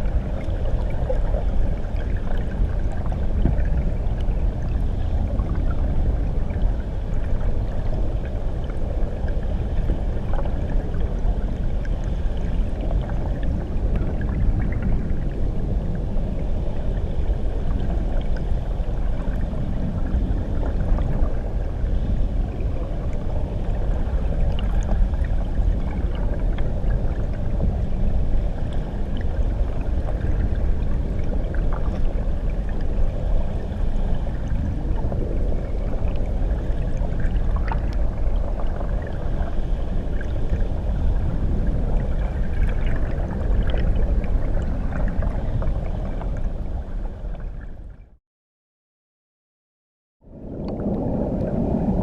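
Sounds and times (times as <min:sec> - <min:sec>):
underwater water churning: 0:00.0 - 0:48.0, 0:50.3 - 0:52.0.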